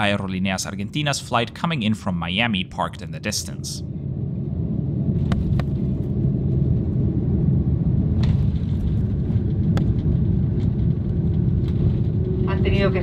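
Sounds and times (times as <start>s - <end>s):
aircraft cabin low rumble: 0.0s - 13.0s.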